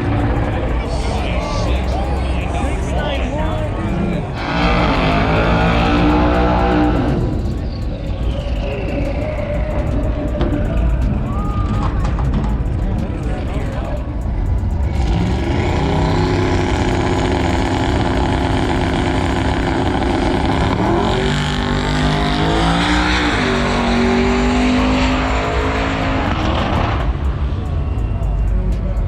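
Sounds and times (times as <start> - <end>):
racing engine at high revs: 0.0 - 29.0.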